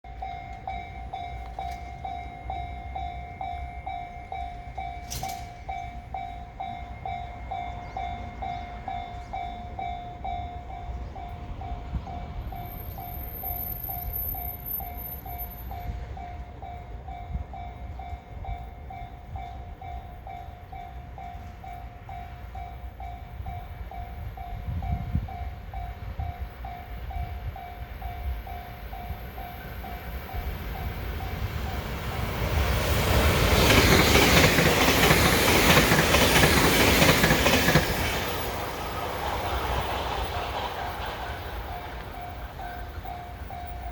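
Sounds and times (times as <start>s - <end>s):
level-crossing bell ringing: 0.0s - 36.2s, 41.8s - 43.9s
electric train rumbling: 0.0s - 43.9s.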